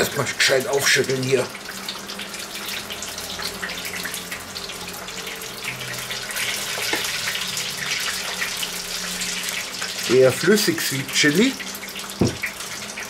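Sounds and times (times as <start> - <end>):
hot oil bubbling and crackling: 0.0 - 13.0.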